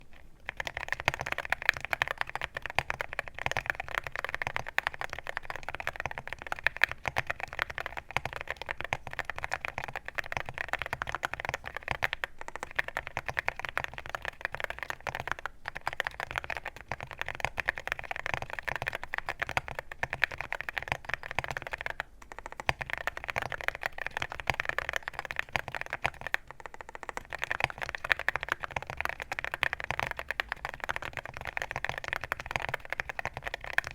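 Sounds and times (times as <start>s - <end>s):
fast typing on mechanical keyboard: 0.0s - 33.9s.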